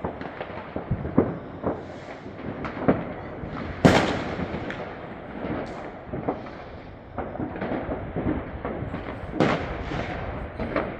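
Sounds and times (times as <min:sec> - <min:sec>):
fireworks and firecrackers banging: 0:00.0 - 0:10.9
rumble of distant bangs: 0:00.0 - 0:10.9.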